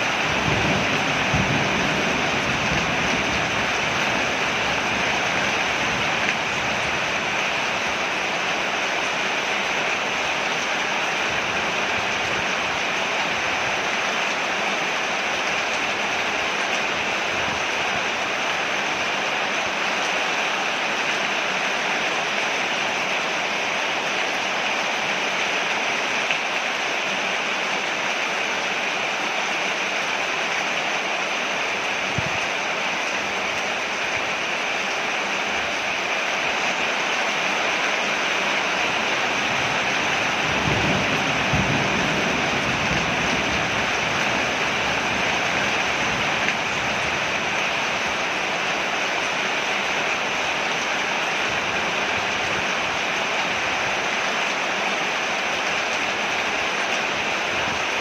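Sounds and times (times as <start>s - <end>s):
rain falling on a porch: 0.0s - 58.0s.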